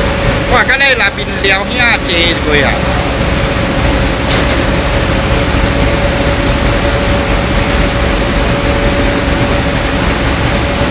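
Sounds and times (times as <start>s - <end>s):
rotary drum dryer humming: 0.0s - 10.9s.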